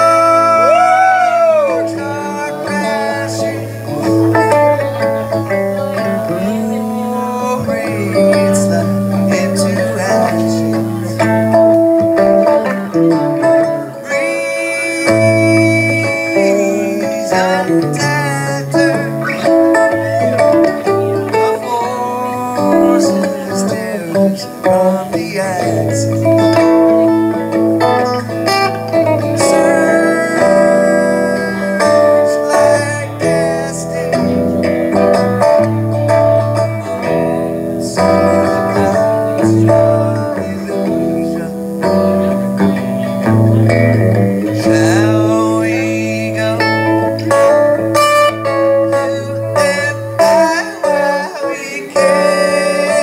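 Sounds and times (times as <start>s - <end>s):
two electric guitars playing: 0.0s - 53.0s.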